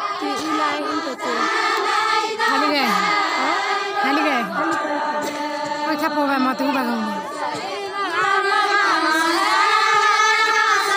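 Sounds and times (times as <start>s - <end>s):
women singing folk song: 0.0s - 10.9s.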